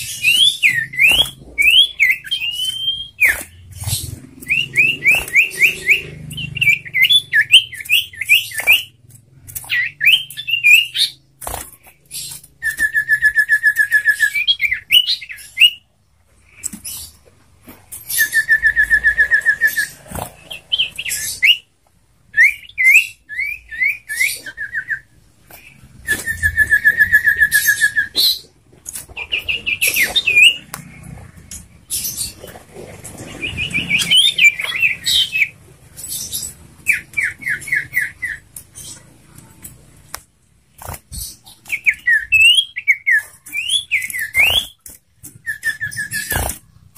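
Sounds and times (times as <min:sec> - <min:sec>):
songbird singing: 0:00.0 - 0:17.2, 0:17.9 - 0:40.0, 0:40.8 - 0:46.9.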